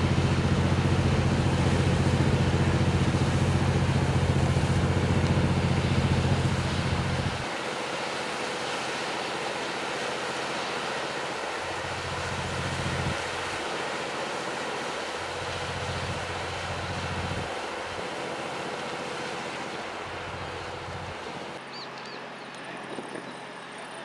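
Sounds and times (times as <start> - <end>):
outboard motor droning: 0.0 - 24.0
wind and water noise: 0.0 - 24.0.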